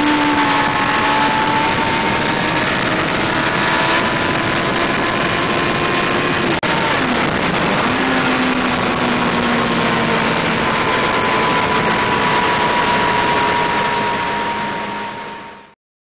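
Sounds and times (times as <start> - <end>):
heavy wind rush: 0.0 - 15.7
motorcycle engine: 0.0 - 15.8.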